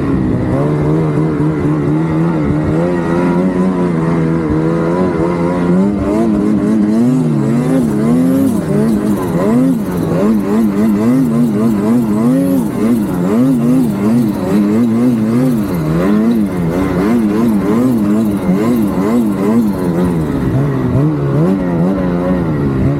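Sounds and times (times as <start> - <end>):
turbocharged engine revving: 0.0 - 22.9.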